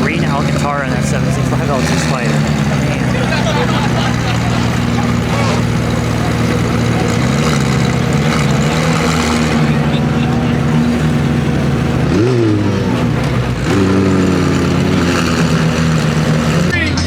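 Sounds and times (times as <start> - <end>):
car engine idling and revving: 0.0 - 17.0
crowd chatter: 0.0 - 17.0.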